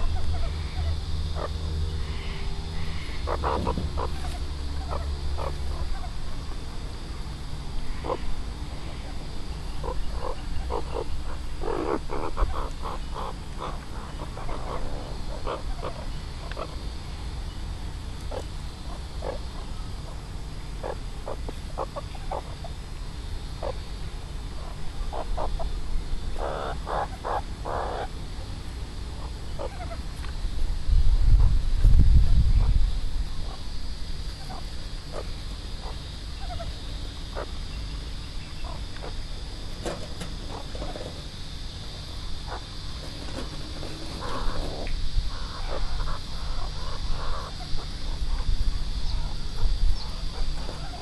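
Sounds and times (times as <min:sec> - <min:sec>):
meerkats calling: 0:00.0 - 0:06.5, 0:07.8 - 0:16.8, 0:18.2 - 0:22.8, 0:23.6 - 0:23.9, 0:24.6 - 0:28.2, 0:29.2 - 0:30.1, 0:34.3 - 0:41.2, 0:41.9 - 0:51.0
steady low rumble: 0:00.0 - 0:51.0.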